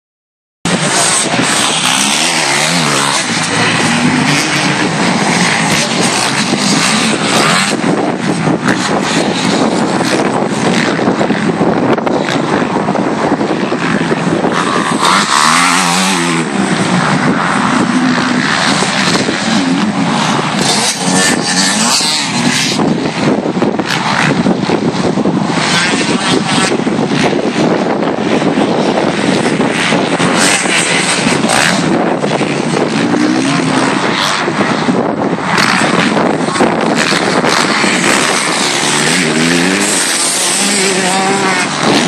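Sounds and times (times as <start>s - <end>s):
motocross bikes revving: 0.7s - 42.0s.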